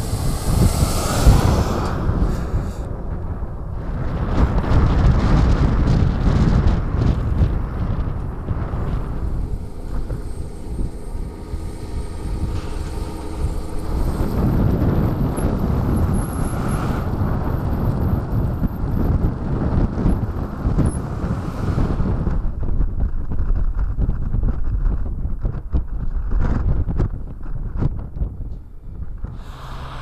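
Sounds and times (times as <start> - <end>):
vehicle engine humming: 0.0 - 30.0
wind and road noise: 0.0 - 30.0.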